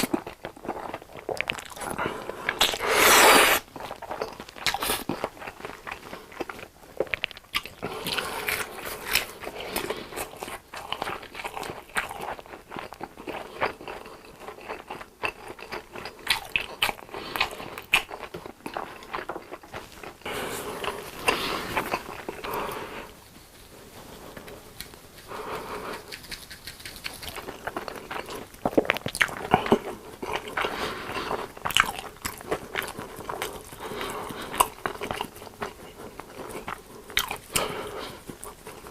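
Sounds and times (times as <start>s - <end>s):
person eating crunchy food: 0.0s - 23.2s, 24.0s - 38.9s.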